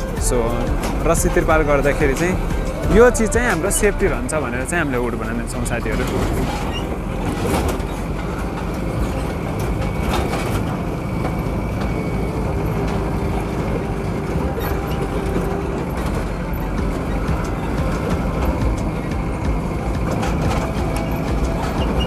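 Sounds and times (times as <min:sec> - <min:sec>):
road noise rumble: 0:00.0 - 0:22.0
truck engine running: 0:00.0 - 0:22.0
truck body knocks and rattles: 0:00.1 - 0:22.0.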